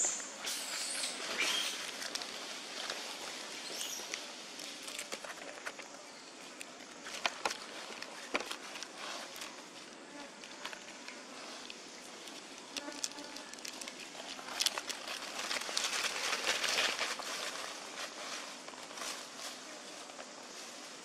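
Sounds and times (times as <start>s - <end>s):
dry leaves crackling: 1.3s - 21.0s.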